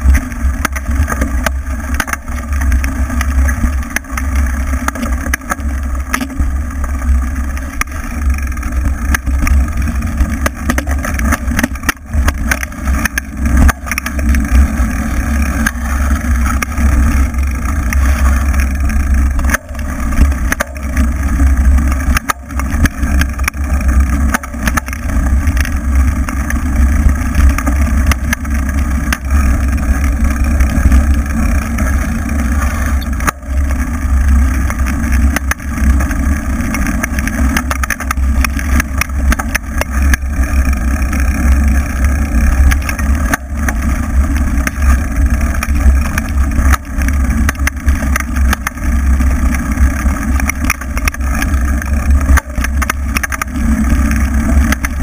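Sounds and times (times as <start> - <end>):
vehicle rumbling over dirt track: 0.0 - 55.0.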